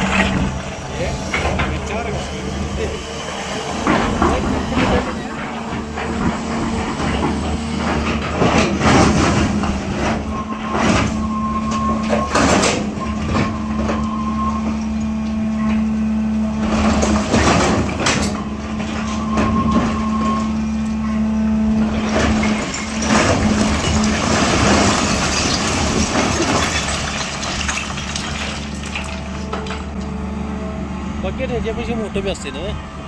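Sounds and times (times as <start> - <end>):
excavator diesel engine running: 0.0 - 33.0
hydraulic whine: 0.0 - 33.0.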